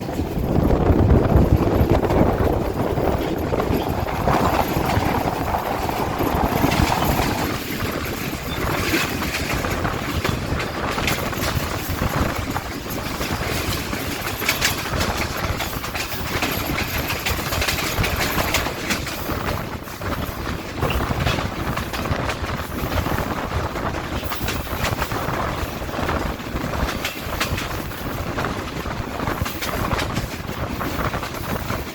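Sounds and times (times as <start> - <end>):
train rumbling on rails: 0.0 - 31.9
wheels clicking over track: 0.0 - 31.9.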